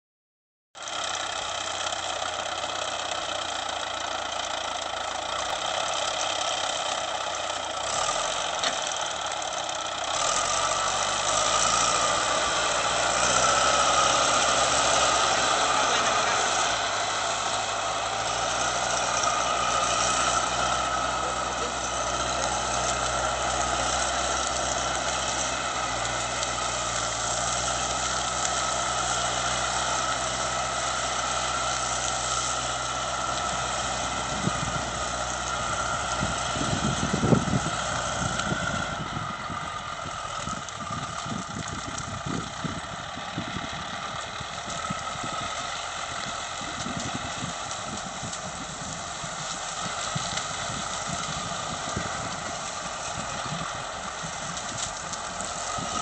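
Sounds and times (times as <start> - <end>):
diesel engine running: 0.8 - 56.0.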